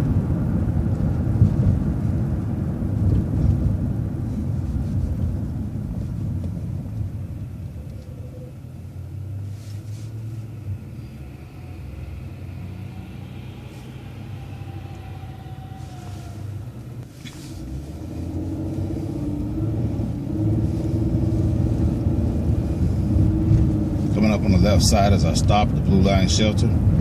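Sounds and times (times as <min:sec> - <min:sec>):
bus engine and tyre rumble: 0:00.0 - 0:27.0.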